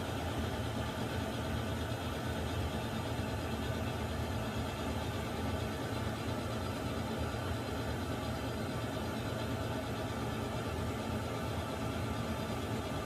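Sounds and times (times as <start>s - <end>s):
water heater rumbling and hissing: 0.0s - 13.0s.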